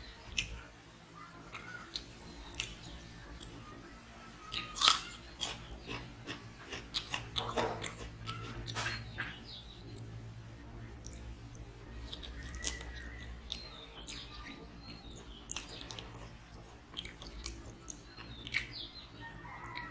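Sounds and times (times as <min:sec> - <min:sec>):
chewing and mouth smacks: 0:01.5 - 0:03.6, 0:04.5 - 0:10.1, 0:11.0 - 0:19.9.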